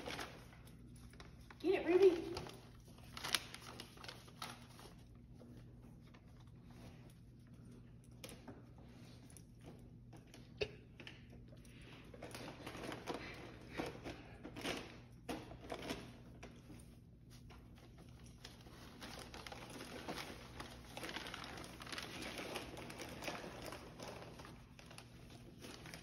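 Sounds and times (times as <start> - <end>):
wrapping paper rustling: 0.0 - 7.8, 12.2 - 26.0.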